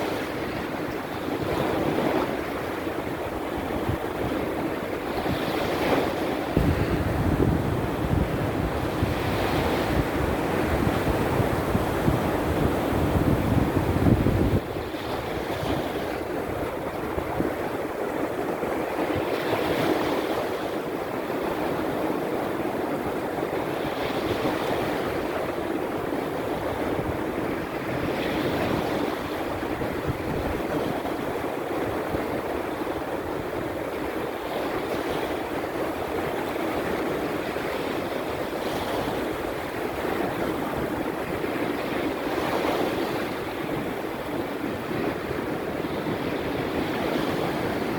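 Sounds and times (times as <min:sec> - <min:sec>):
waves breaking: 0:00.0 - 0:47.9.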